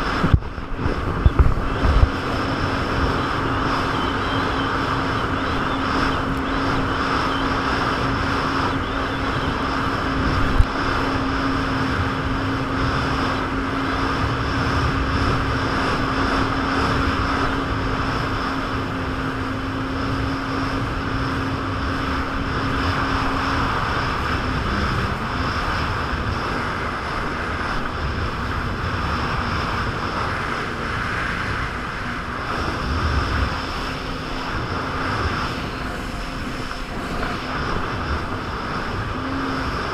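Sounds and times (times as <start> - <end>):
jet ski engine: 0.0 - 39.9
wind buffeting camera: 0.0 - 39.9.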